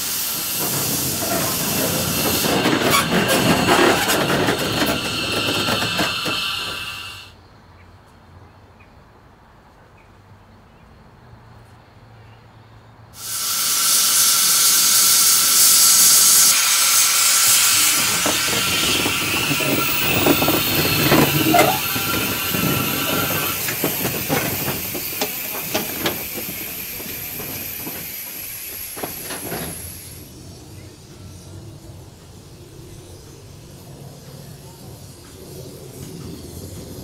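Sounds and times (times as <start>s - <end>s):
steam locomotive hissing: 0.0s - 7.4s, 13.2s - 37.0s.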